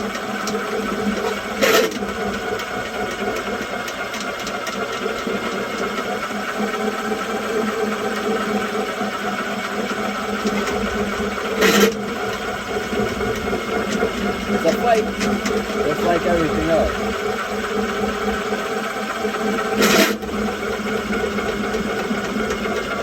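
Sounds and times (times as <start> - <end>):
drain-cleaning machine running: 0.0 - 23.0.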